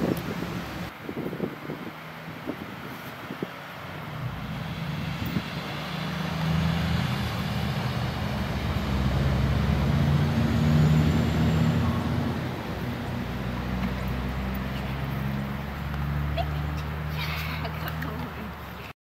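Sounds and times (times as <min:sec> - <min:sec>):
passing vehicle engine drone: 0:00.0 - 0:18.7.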